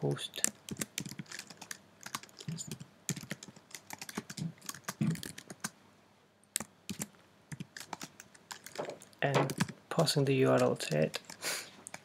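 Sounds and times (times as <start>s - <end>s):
computer keyboard typing: 0.4s - 5.8s, 6.6s - 9.8s, 10.5s - 12.0s.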